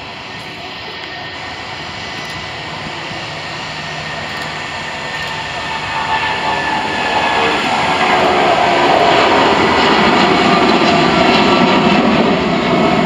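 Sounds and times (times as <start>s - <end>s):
jet engine whine: 0.0s - 13.0s
jet engines at takeoff: 0.0s - 13.0s.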